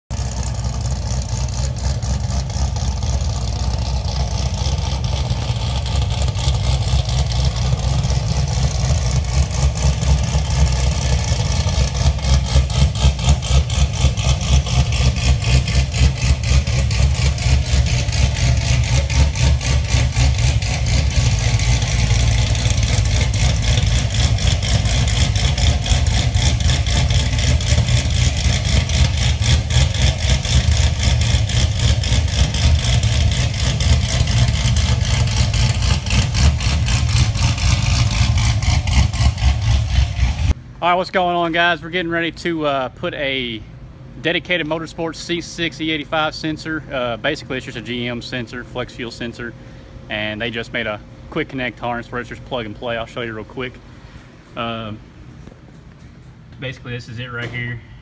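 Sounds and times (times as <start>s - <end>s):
car engine idling with choppy lope: 0.0s - 58.0s.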